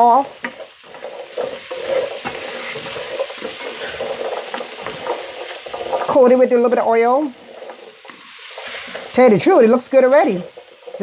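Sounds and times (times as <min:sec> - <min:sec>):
turnip sizzling in a pan: 0:00.0 - 0:11.0
utensil scraping and tapping pan: 0:00.0 - 0:11.0.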